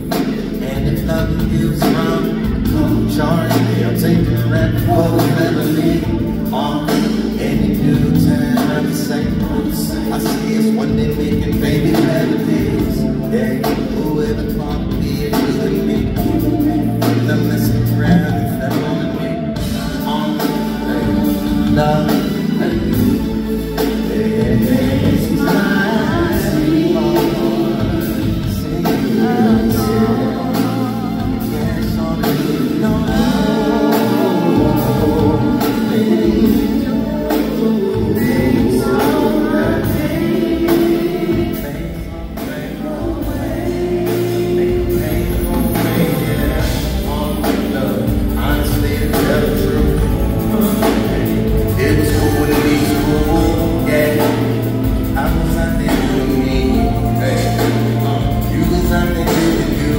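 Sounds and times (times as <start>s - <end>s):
drums: 0.0s - 59.9s
keyboards: 0.0s - 59.9s
man singing with vibrato: 0.0s - 59.9s.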